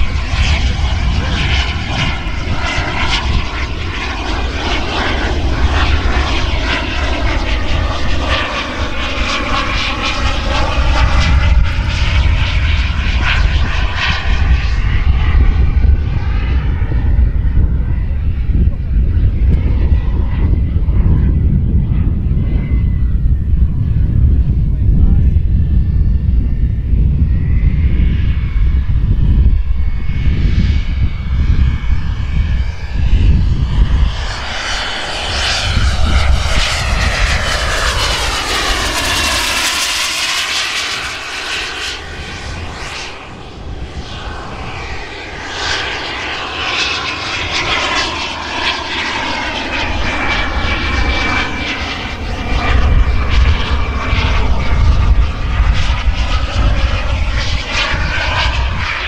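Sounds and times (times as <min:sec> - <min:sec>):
low rumble: 0:00.0 - 0:59.0
model jet turbines whining: 0:00.0 - 0:59.0.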